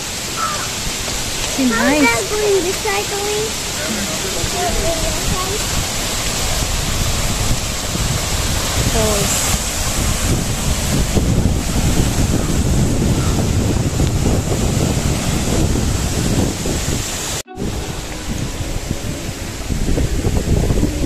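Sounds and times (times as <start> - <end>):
water rushing over rocks: 0.0 - 21.0
wind rumbling on microphone: 0.0 - 21.0.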